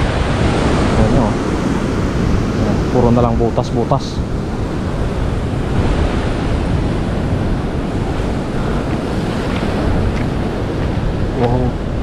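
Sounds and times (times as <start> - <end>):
ocean surf washing on rocks: 0.0 - 12.0
wind rumbling on microphone: 0.0 - 12.0.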